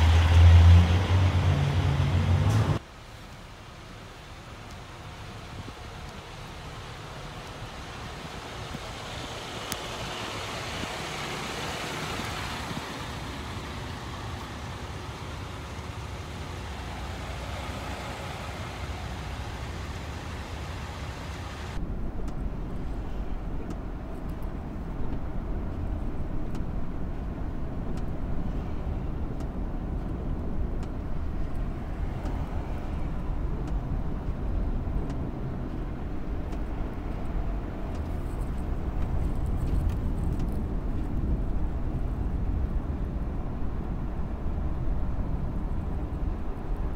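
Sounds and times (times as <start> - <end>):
engine and tyres on snowy road: 0.0 - 46.9
vehicles idling in traffic: 0.0 - 46.9.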